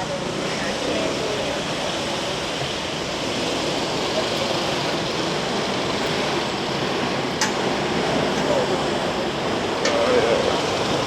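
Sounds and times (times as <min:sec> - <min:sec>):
city traffic rushing: 0:00.0 - 0:11.0.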